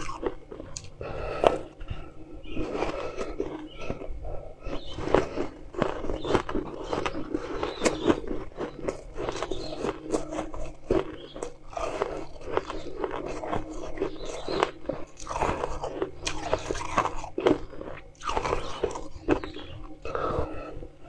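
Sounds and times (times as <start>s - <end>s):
person chewing crushed ice: 0.0s - 21.0s.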